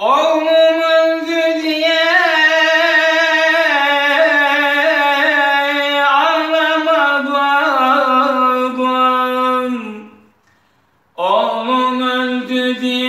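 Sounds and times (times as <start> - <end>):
man singing unaccompanied: 0.0 - 10.3, 11.2 - 13.0.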